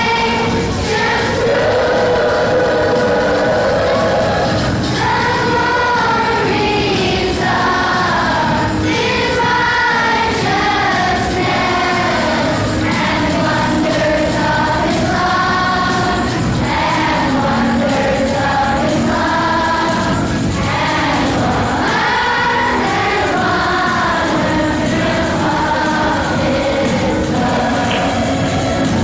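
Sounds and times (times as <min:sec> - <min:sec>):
children's choir singing: 0:00.0 - 0:29.0.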